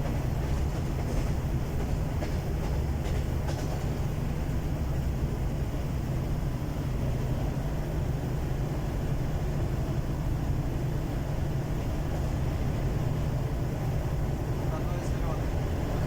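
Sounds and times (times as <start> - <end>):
train engine and rail drone: 0.0 - 16.0.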